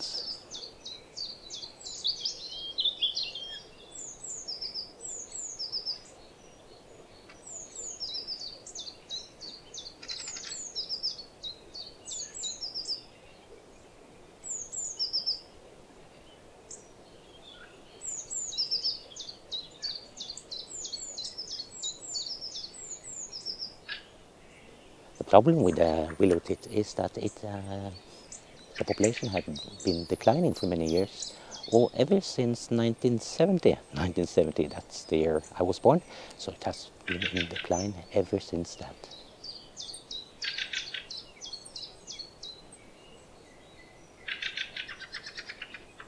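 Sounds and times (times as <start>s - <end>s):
faint steady background noise: 0.0s - 46.0s
songbirds chirping: 0.0s - 46.0s.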